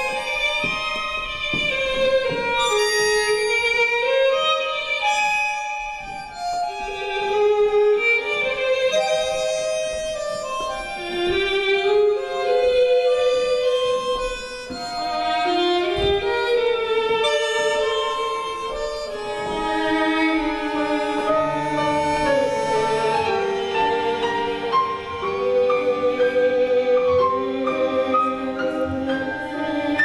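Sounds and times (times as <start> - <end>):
tango music with violin melody: 0.0 - 30.0.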